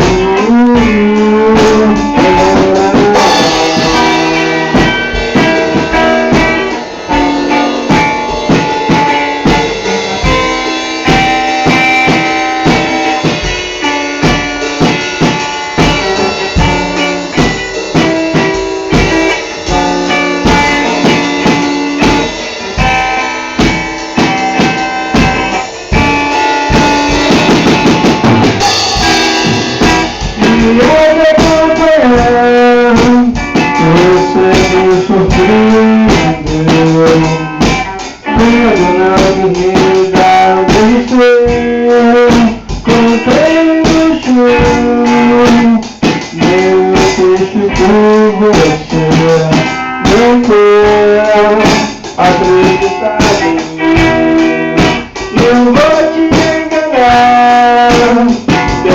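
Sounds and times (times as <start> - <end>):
drum kit beat: 0.0 - 58.9
guitar chords: 0.0 - 58.9
keyboard chords: 0.0 - 58.9.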